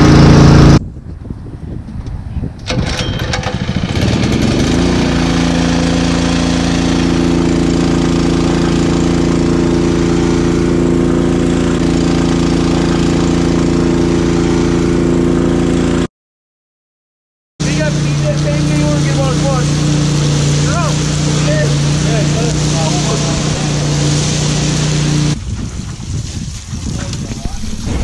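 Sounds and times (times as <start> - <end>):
small engine pump running: 0.0 - 0.8, 2.7 - 16.1, 17.6 - 28.0.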